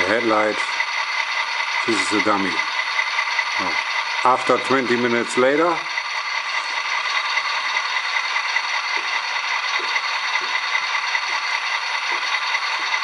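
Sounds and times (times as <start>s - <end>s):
model locomotive diesel engine sound: 0.0s - 13.0s.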